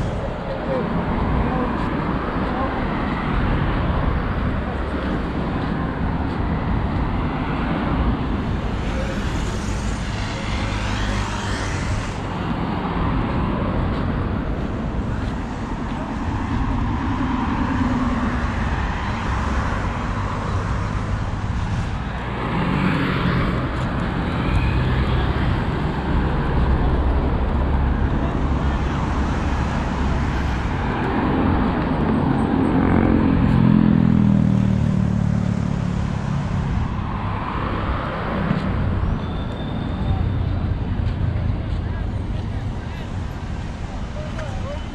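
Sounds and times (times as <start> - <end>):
street traffic: 0.0 - 44.9.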